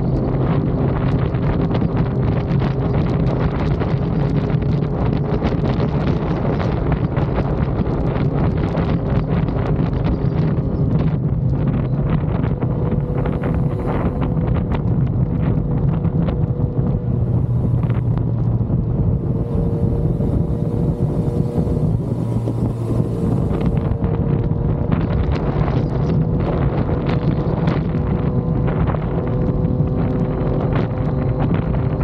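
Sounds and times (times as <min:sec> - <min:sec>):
motorcycle engine cruising: 0:00.0 - 0:32.0
wind rushing over microphone: 0:00.0 - 0:32.0.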